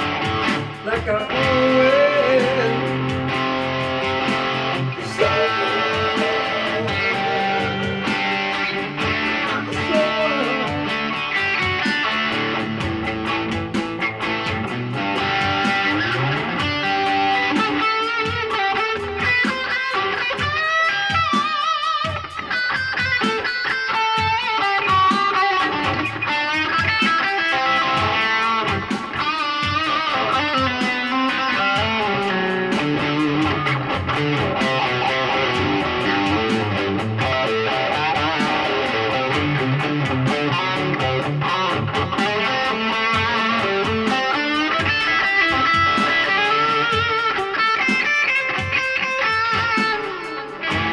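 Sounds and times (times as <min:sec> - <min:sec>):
electric guitar lead: 0:00.0 - 0:50.9.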